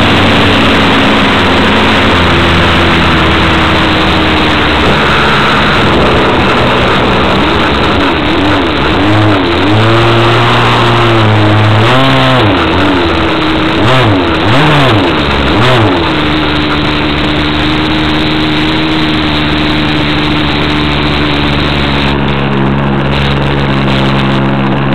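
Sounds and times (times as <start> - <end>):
model airplane engine running: 0.0 - 24.9.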